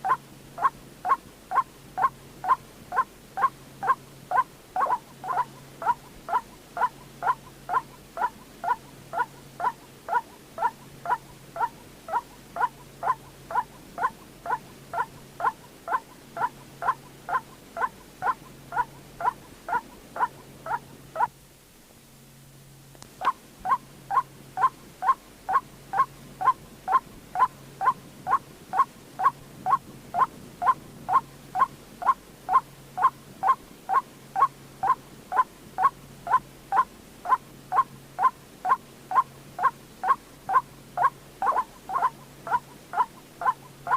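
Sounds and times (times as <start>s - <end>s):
waterhen calling: 0.0s - 21.3s, 23.2s - 43.9s.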